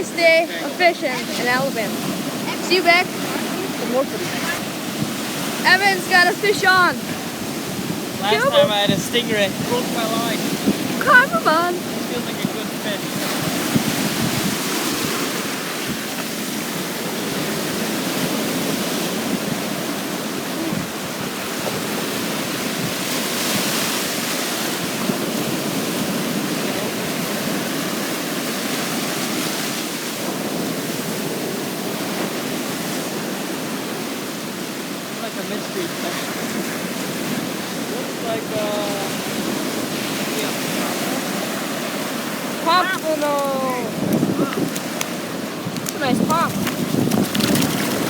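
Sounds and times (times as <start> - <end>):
wind buffeting microphone: 0.0 - 34.7, 36.1 - 48.0
ocean surf washing onto beach: 0.0 - 48.0.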